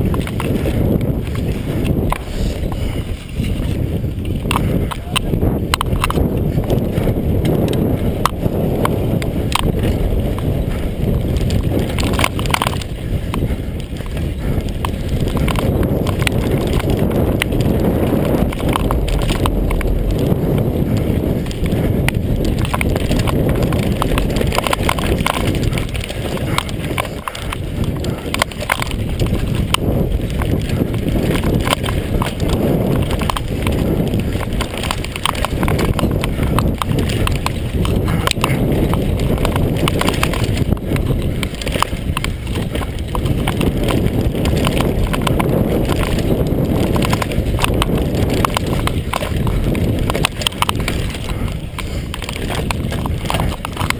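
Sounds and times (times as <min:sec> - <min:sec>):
bike chain and frame clatter: 0:00.0 - 0:53.9
tyres rumbling on gravel: 0:00.0 - 0:53.9.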